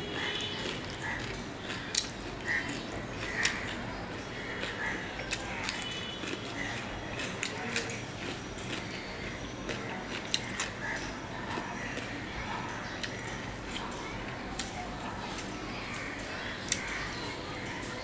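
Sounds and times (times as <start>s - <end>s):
cucumber crunching: 0.0s - 12.2s, 12.8s - 17.2s.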